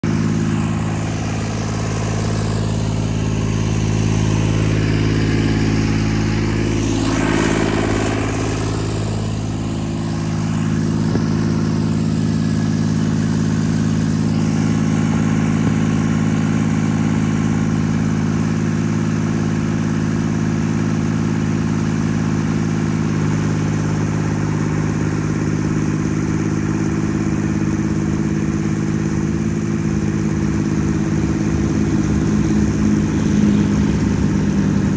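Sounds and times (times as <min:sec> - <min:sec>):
stump grinder engine running: 0:00.0 - 0:34.9.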